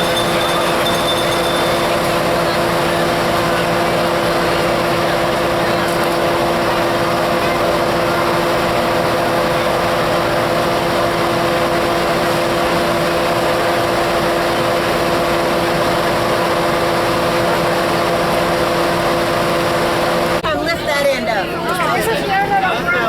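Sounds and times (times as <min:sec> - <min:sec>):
diesel locomotive idling: 0:00.0 - 0:20.5.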